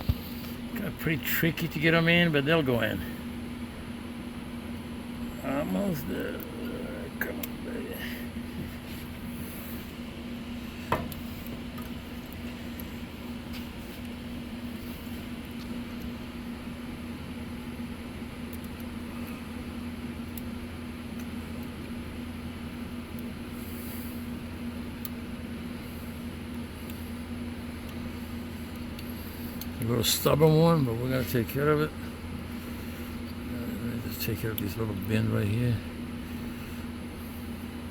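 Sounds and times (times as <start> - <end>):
machine humming: 0.0 - 37.9.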